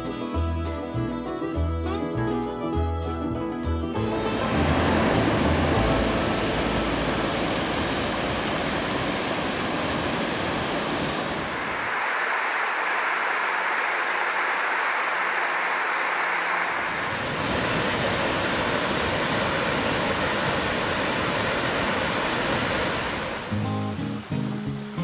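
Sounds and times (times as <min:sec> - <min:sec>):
small waterfall cascade: 0:04.4 - 0:25.0.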